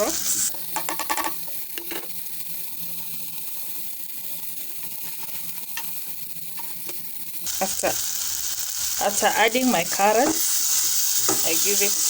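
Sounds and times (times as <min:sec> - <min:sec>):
tomatoes sizzling in a pan: 0:00.0 - 0:12.0.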